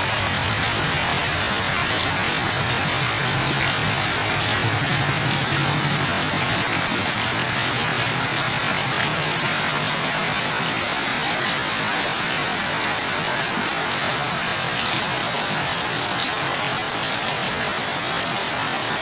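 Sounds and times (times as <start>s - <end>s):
heavy rain on leaves: 0.0s - 19.0s.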